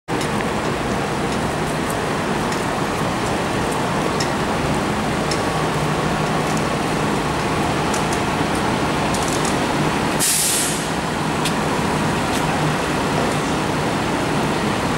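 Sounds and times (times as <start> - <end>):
city traffic: 0.1 - 14.9
idling engines humming: 0.1 - 14.9.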